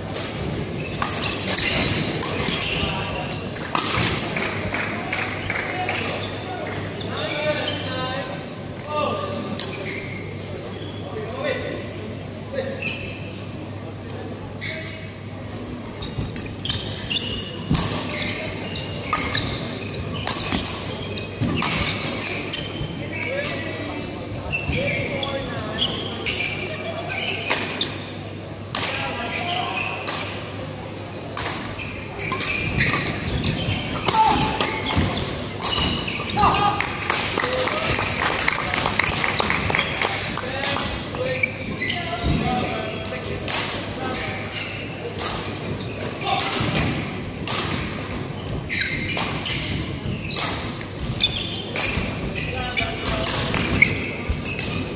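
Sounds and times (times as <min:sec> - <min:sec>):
voices chattering in echoing hall: 0:00.0 - 0:54.9
shoes squeaking on court: 0:00.2 - 0:04.5, 0:05.1 - 0:08.1, 0:09.6 - 0:11.2, 0:12.7 - 0:28.2, 0:28.9 - 0:54.9.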